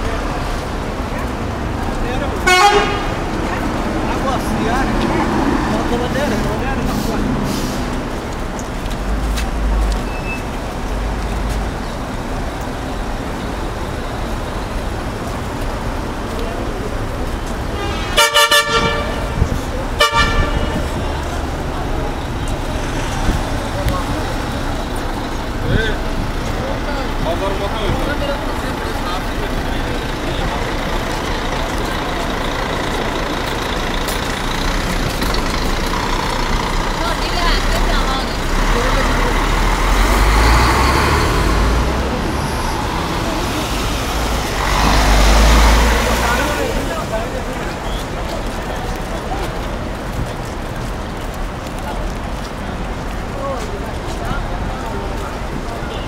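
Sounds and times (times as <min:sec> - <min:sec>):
bus and vans passing: 0:00.0 - 0:56.0
city traffic: 0:00.0 - 0:56.0.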